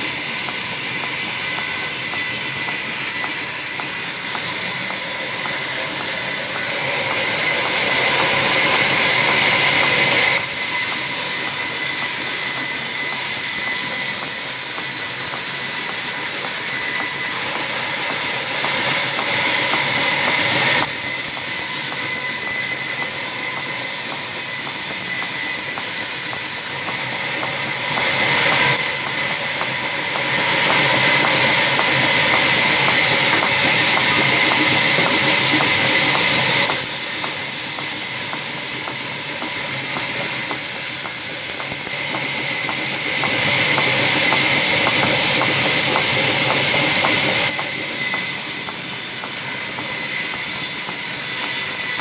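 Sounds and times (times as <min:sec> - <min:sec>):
band saw blade hissing through wood: 0:00.0 - 0:52.0
sawmill machine running: 0:00.0 - 0:52.0
thin steady whine: 0:00.0 - 0:52.0.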